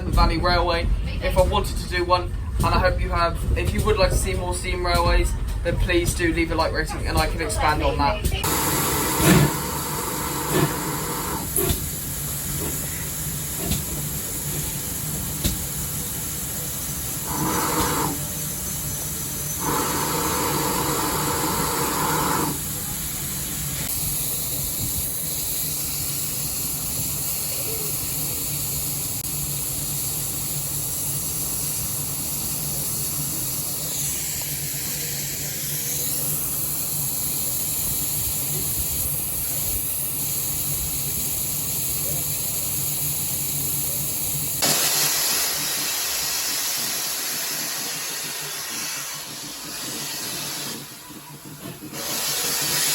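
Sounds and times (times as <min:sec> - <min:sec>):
steam train rumble and hiss: 0:00.0 - 0:52.9.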